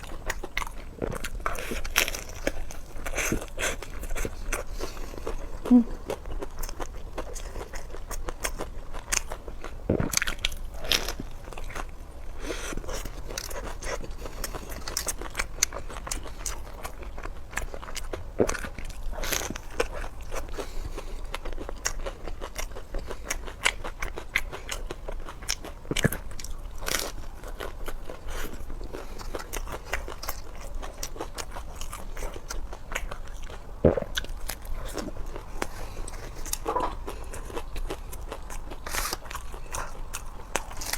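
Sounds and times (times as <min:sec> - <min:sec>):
person crunching food: 0:00.0 - 0:40.9.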